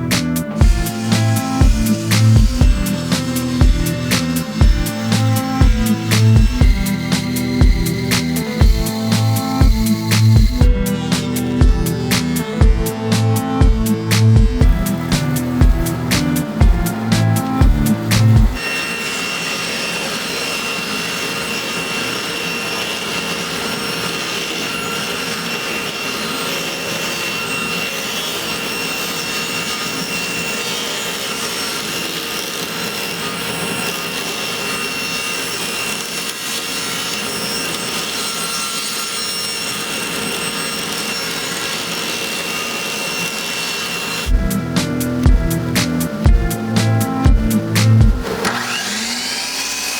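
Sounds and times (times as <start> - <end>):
power tool running on wood: 0.0 - 49.9.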